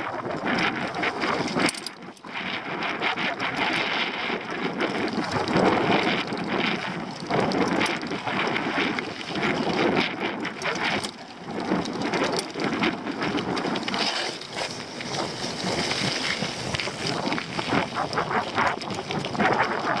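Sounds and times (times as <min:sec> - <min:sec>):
bike rattling over bumps: 0:00.0 - 0:20.0
wind rushing over microphone: 0:00.0 - 0:20.0
tyres on loose dirt: 0:00.2 - 0:20.0.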